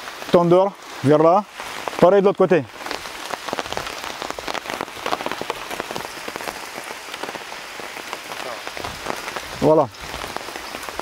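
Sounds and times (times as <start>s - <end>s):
steady rain pattering: 0.0s - 11.0s.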